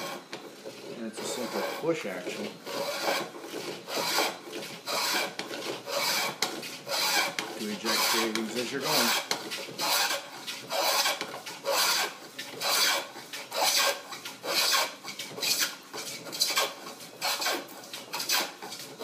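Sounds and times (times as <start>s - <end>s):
hand plane rasping on wood: 0.0s - 19.0s.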